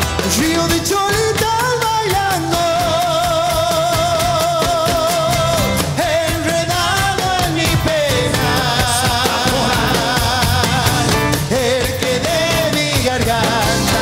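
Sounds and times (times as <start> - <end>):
folk song: 0.0 - 14.0.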